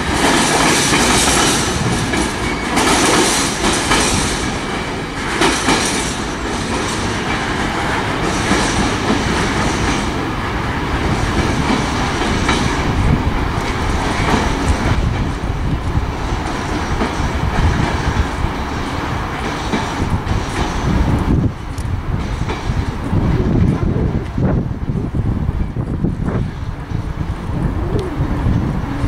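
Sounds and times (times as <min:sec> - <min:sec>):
wheels clacking over track: 0:00.0 - 0:24.6
train wheels rumbling on rails: 0:00.0 - 0:29.0.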